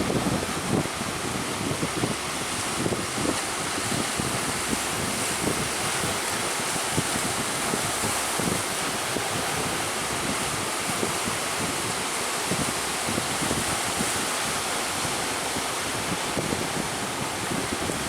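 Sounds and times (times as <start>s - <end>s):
sea waves rushing: 0.0s - 18.0s
strong wind buffeting microphone: 0.0s - 18.0s.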